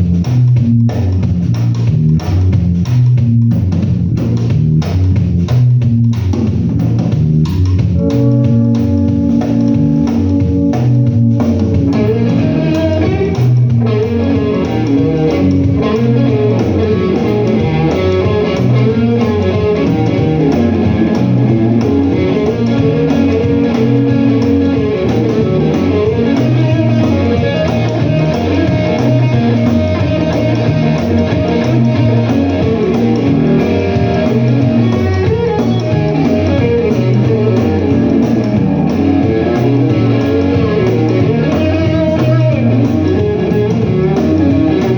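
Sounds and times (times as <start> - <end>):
electric guitar: 0.0 - 44.9
live blues-rock music: 0.0 - 44.9.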